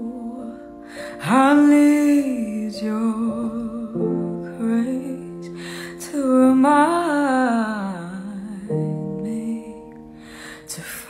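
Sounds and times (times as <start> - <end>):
woman singing a slow ballad: 0.0 - 11.0.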